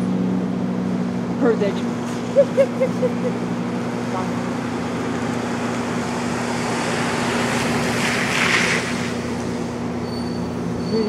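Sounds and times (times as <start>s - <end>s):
vehicle passing: 0.0s - 10.0s
city traffic hum: 0.0s - 11.0s.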